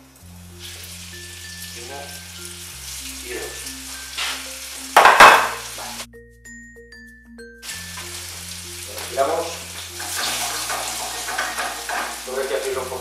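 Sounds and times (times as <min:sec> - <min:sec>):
onion sizzling in oil: 0:00.0 - 0:06.1, 0:07.6 - 0:13.0
soft background music: 0:00.0 - 0:13.0.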